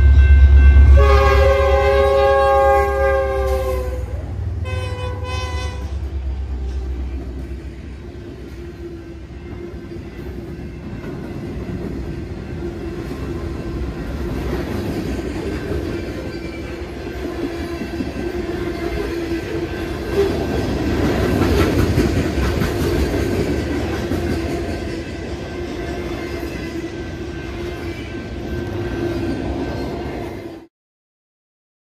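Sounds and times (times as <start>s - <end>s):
diesel freight train passing: 0.0s - 30.7s
train wheels on rails: 0.0s - 30.7s.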